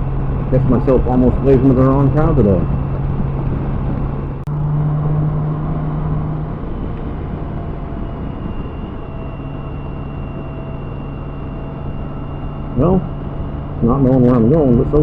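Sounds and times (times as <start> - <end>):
motorcycle engine hum: 0.0 - 15.0
wind and road noise: 0.0 - 15.0.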